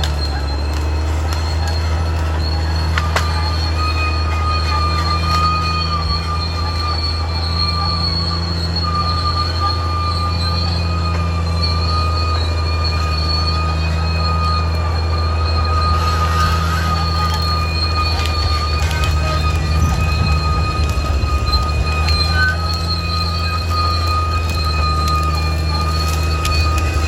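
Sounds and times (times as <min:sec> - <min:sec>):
bulldozer diesel engine: 0:00.0 - 0:27.0
high-pitched machine squeal: 0:00.0 - 0:27.0.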